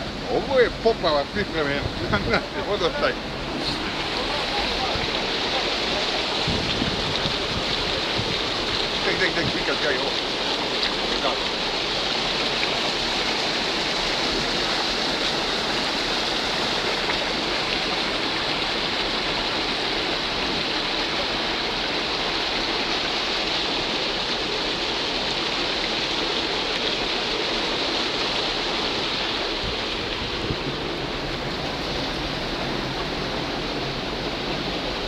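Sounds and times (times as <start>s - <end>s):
water rushing through sluice gate: 0.0s - 35.0s.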